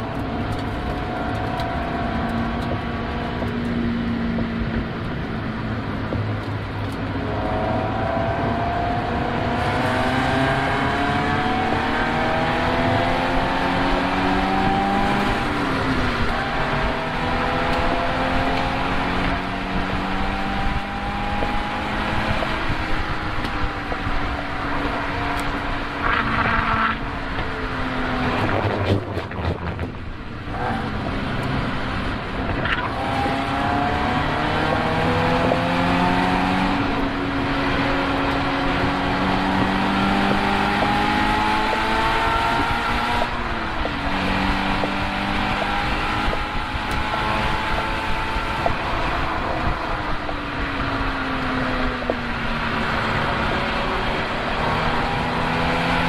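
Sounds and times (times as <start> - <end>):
race car engine revving: 5.8 - 56.0.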